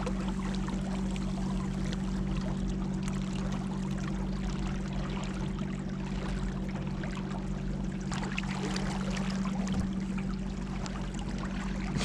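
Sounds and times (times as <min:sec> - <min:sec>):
boat motor running: 0:00.0 - 0:12.0
water rushing past hull: 0:00.0 - 0:12.0.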